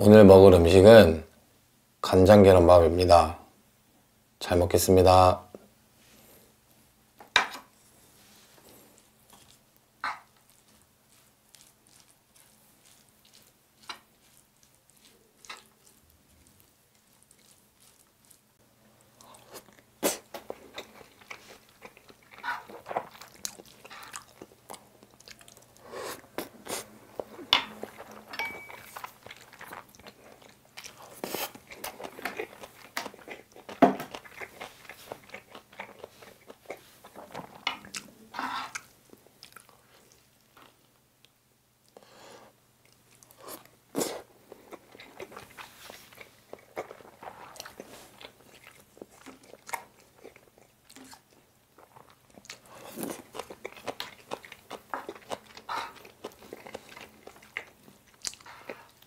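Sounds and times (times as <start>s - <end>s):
close chewing of rice: 8.2s - 40.9s, 41.8s - 59.0s.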